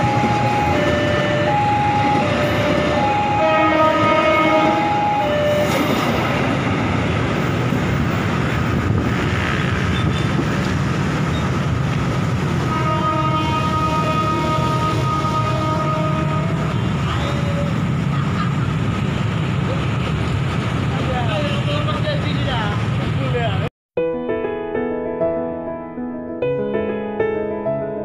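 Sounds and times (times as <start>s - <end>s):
train wheels rumbling on rails: 0.0s - 23.7s.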